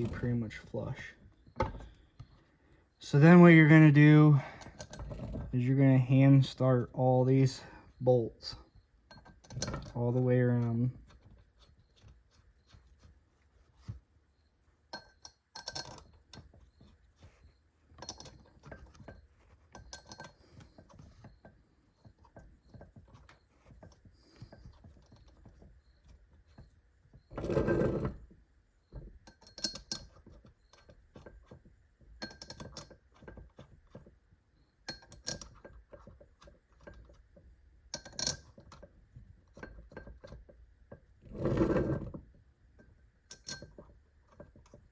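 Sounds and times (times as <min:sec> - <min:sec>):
metal bolts clinking: 0:03.0 - 0:12.2, 0:14.8 - 0:28.3, 0:28.9 - 0:34.1, 0:34.8 - 0:42.0, 0:42.7 - 0:44.9.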